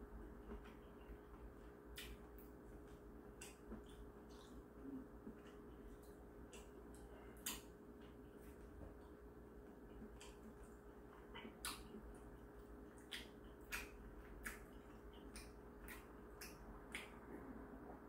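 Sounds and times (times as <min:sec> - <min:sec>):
low room hum: 0:00.0 - 0:18.0
soft chewing mouth clicks: 0:00.4 - 0:17.7.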